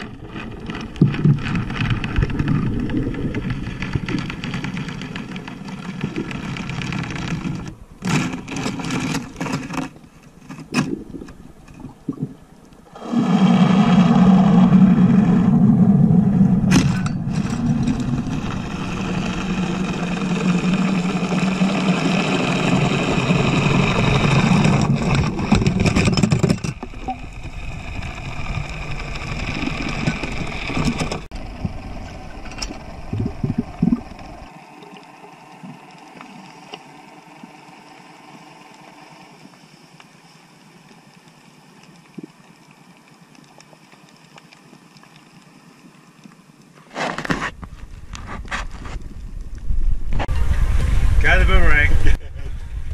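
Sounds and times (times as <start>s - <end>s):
boat motor heard underwater: 0.0s - 52.9s.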